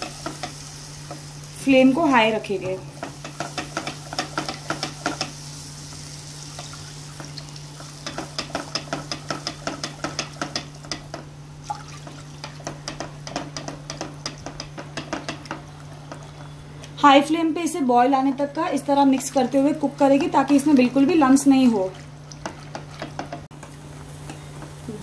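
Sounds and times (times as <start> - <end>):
faint sizzling: 0.0 - 25.0.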